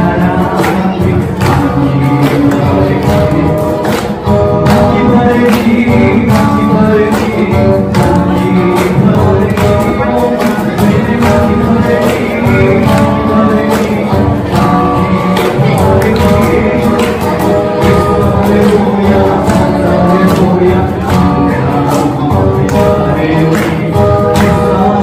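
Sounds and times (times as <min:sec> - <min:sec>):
cajon beat: 0:00.0 - 0:25.0
man singing: 0:00.0 - 0:25.0
strummed acoustic guitar: 0:00.0 - 0:25.0.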